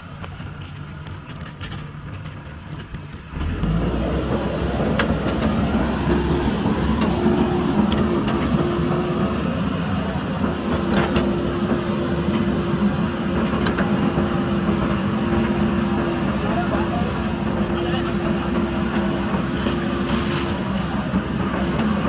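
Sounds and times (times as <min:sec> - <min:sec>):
diesel engine running: 0:00.0 - 0:22.0
whine under load: 0:03.3 - 0:22.0.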